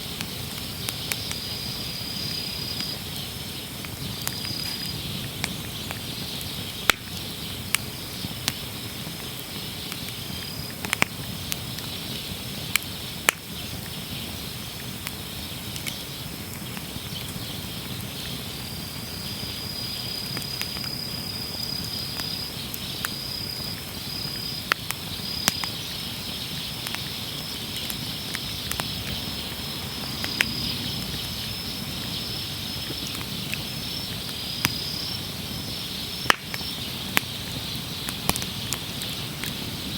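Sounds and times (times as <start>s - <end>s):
campfire crackling and popping: 0.0s - 39.9s
high insect trill: 0.0s - 39.9s.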